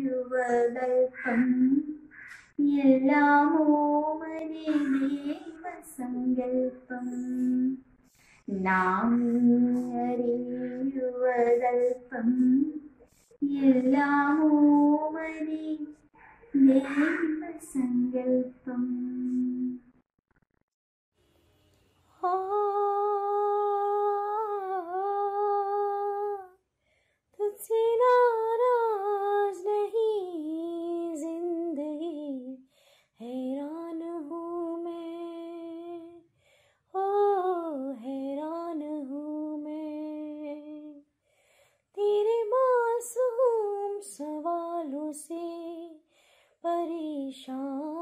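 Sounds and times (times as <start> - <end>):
woman singing unaccompanied: 0.0 - 19.9, 22.2 - 26.6, 27.4 - 32.6, 33.2 - 36.3, 36.9 - 41.1, 42.0 - 48.0.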